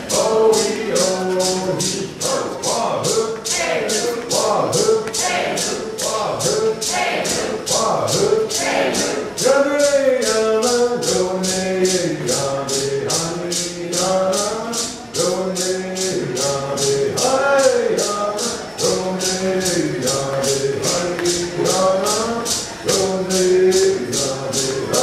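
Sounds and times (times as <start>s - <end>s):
person chanting: 0.0s - 25.0s
rattle shaken in steady beat: 0.0s - 25.0s.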